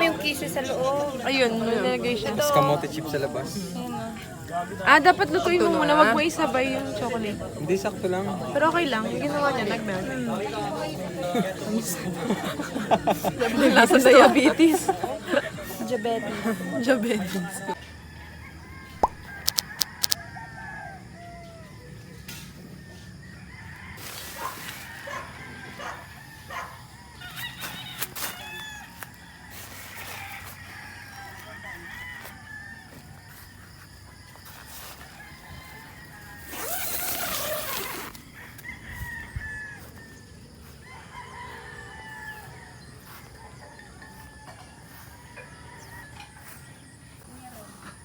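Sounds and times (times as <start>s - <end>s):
roosters crowing: 4.9s - 48.0s.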